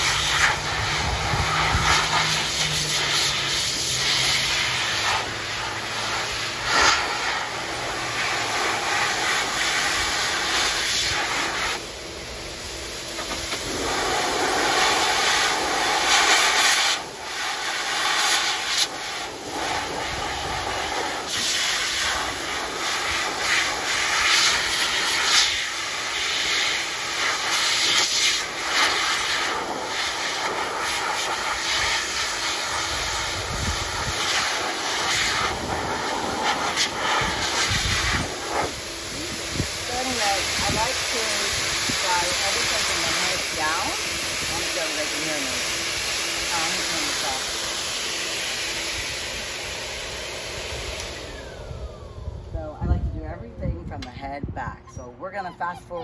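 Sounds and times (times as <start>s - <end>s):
dog dryer blowing air: 0.0s - 56.0s.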